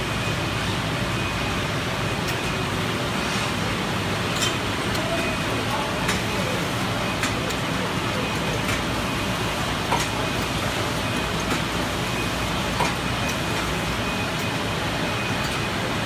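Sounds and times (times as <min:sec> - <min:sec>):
machinery hum and hiss: 0:00.0 - 0:16.0.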